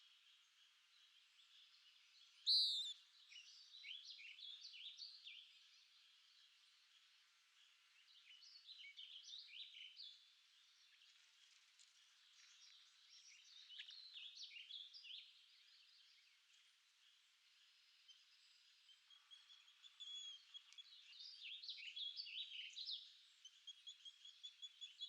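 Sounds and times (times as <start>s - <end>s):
birds singing: 0.0s - 25.0s
faint steady hiss: 0.0s - 25.0s.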